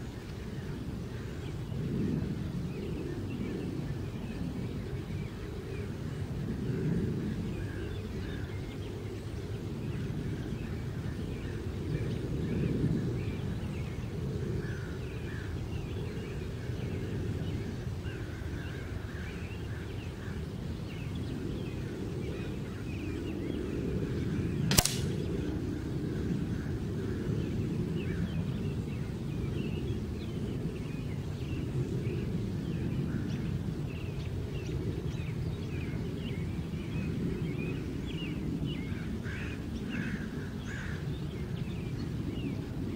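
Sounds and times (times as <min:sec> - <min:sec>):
low outdoor background: 0:00.0 - 0:42.9.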